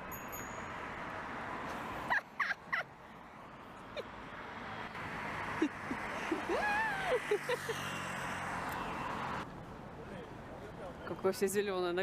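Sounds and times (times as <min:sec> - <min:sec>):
city street background noise: 0:00.0 - 0:12.0.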